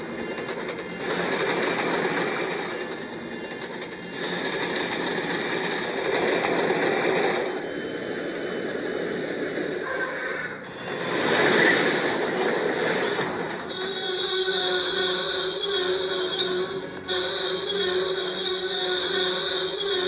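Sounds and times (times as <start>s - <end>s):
freight locomotive running: 0.0s - 20.0s
train wheels rattling on track: 0.0s - 20.0s.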